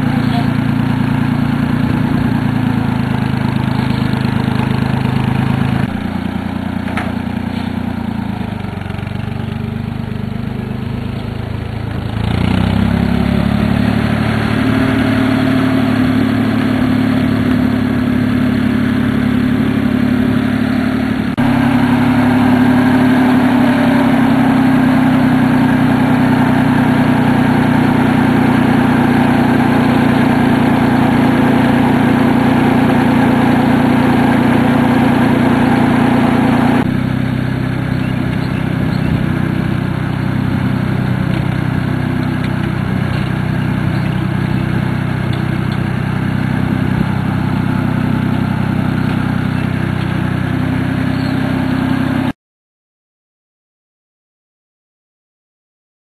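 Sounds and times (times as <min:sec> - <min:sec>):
tractor engine running: 0:00.0 - 0:52.3.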